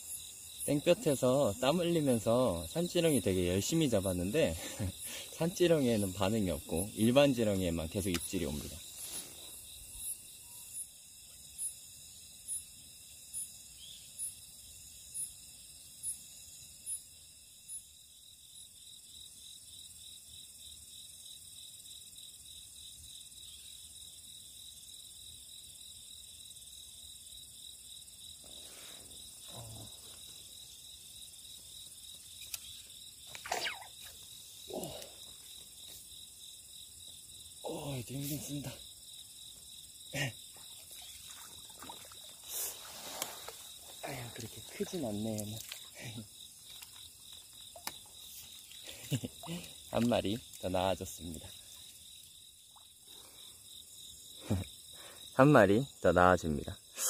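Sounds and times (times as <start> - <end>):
crickets trilling: 0.0 - 57.0
insect chirping: 0.0 - 57.0.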